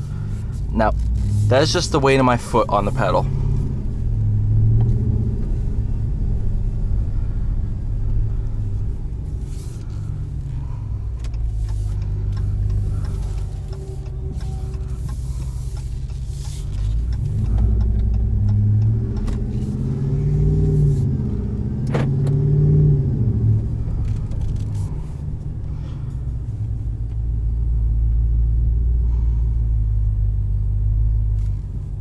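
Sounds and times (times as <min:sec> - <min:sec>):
truck engine accelerating: 0:00.0 - 0:32.0.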